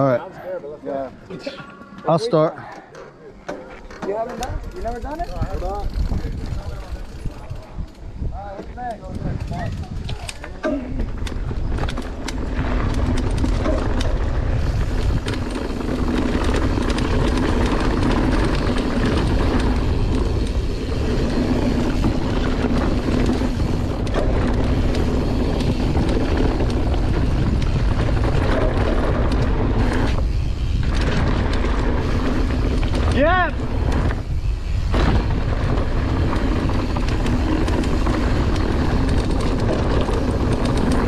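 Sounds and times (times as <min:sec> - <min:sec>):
bike rattling over bumps: 0:03.4 - 0:41.0
bike tyres on dirt trail: 0:03.5 - 0:41.0
rushing wind: 0:04.5 - 0:41.0.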